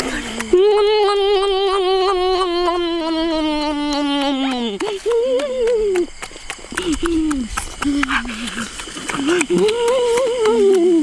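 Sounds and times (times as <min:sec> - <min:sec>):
boy's wavering oooh: 0:00.0 - 0:06.2, 0:06.8 - 0:11.0.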